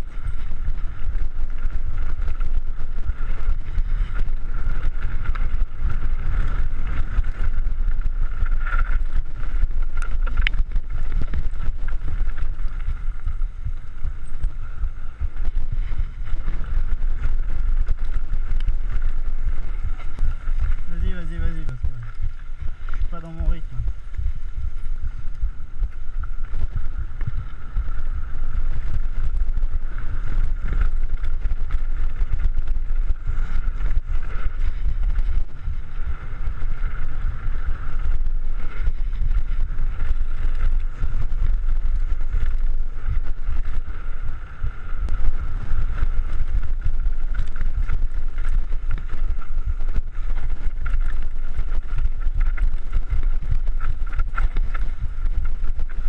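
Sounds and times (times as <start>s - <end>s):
bike rattling over rough ground: 0.0s - 56.0s
wind rumble on microphone: 0.0s - 56.0s.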